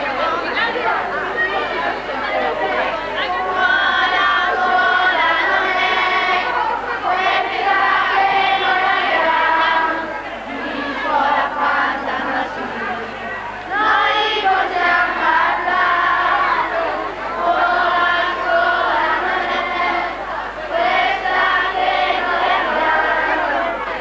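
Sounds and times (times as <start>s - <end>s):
children singing: 1.6s - 24.0s.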